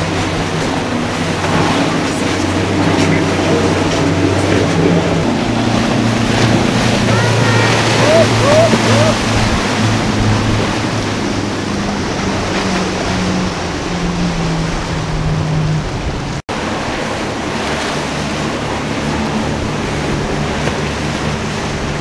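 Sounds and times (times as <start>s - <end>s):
motorboat engines running: 0.0s - 22.0s
surf: 0.0s - 22.0s
wind on microphone: 0.0s - 22.0s.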